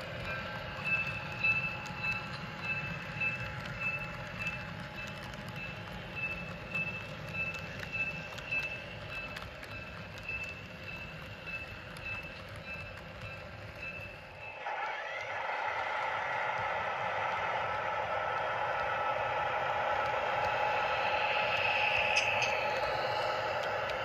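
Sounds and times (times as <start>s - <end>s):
wheels clicking over rail joints: 0.0s - 14.6s, 19.1s - 24.0s
model train cars rumbling: 0.0s - 24.0s.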